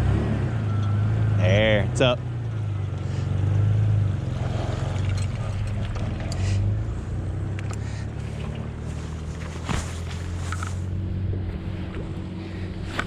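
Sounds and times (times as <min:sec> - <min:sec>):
engine idling: 0:00.7 - 0:13.0.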